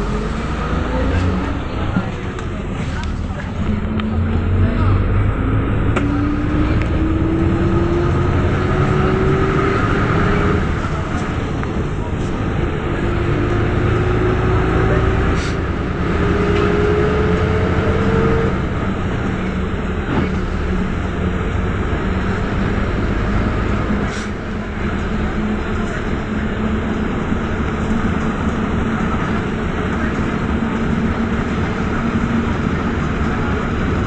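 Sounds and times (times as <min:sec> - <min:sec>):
bus diesel engine running: 0:00.0 - 0:34.0
engine whine: 0:00.0 - 0:34.0
road noise: 0:00.0 - 0:34.0.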